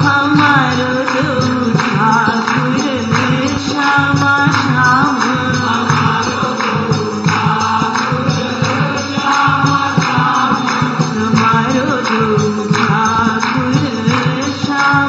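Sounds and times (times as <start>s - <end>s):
devotional singing: 0.0s - 15.0s
rhythmic percussion: 0.0s - 15.0s.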